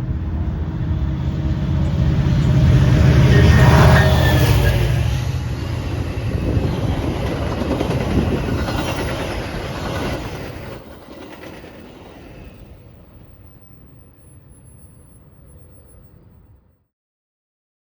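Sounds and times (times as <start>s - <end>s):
train wheels on rails: 0.0s - 16.2s.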